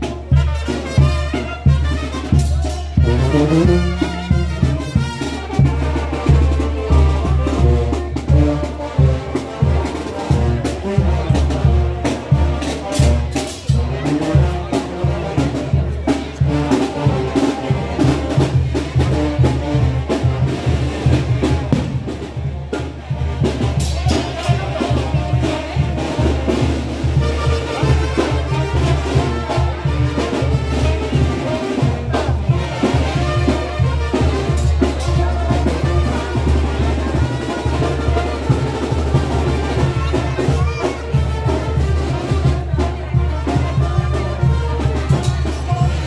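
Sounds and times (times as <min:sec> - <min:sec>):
brass band playing: 0:00.0 - 0:46.0.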